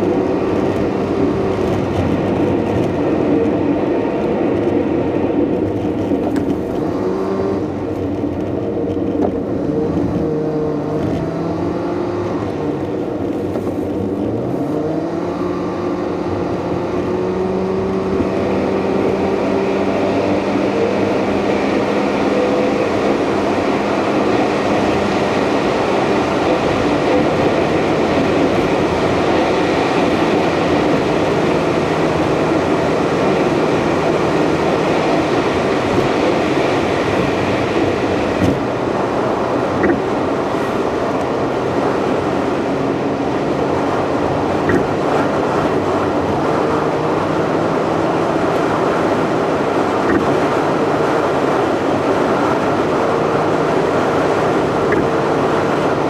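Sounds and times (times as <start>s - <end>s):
car engine inside moving car: 0.0s - 56.0s
road noise in tunnel: 0.0s - 56.0s.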